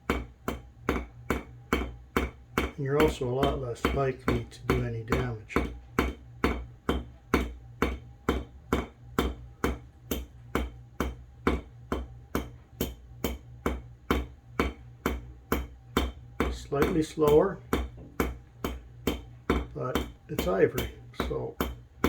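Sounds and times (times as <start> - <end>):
hammer tapping metal pin: 0.0 - 22.0.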